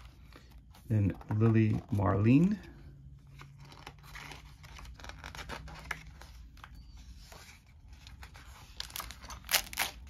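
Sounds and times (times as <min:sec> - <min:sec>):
paper pages turning: 0:00.0 - 0:10.0.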